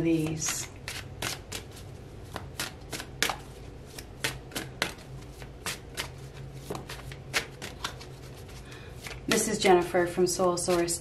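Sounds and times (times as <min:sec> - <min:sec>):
cards being shuffled: 0:00.1 - 0:09.5.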